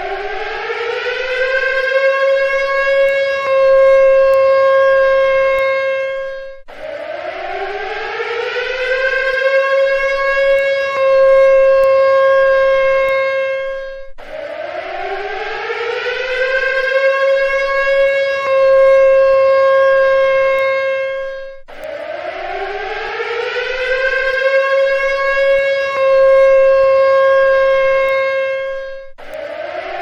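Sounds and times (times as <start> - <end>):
civil defense siren wailing: 0.0 - 30.0.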